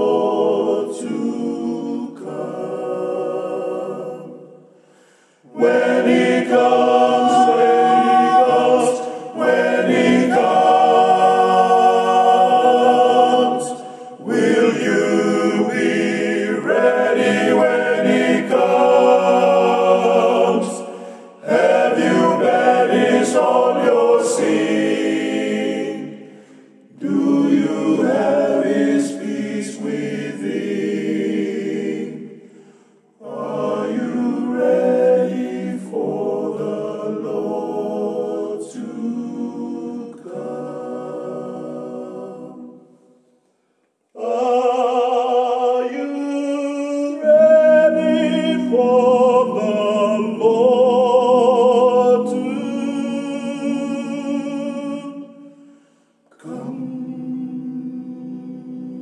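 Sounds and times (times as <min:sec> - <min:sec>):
male vocal group singing gospel: 0:00.0 - 0:04.4, 0:05.5 - 0:32.2, 0:33.2 - 0:42.7, 0:44.2 - 0:55.3, 0:56.4 - 0:59.0.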